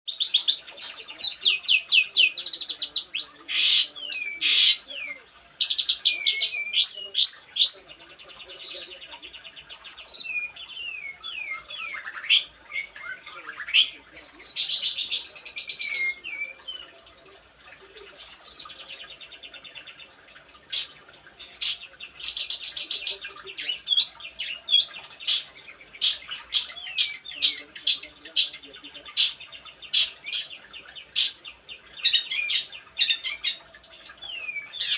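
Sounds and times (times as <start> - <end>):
shrike singing: 0.1 - 17.2, 18.1 - 34.9.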